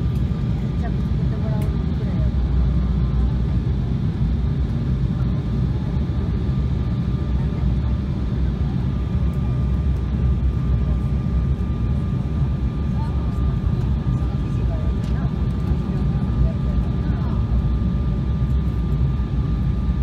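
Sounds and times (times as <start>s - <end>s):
jet engine and airflow rumble: 0.0s - 20.0s.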